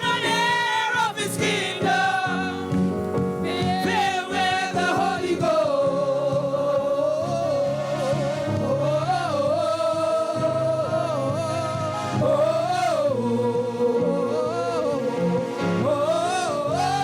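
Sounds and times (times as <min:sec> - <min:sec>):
instrumental backing: 0:00.0 - 0:17.0
lead singer holding long notes: 0:00.0 - 0:17.0.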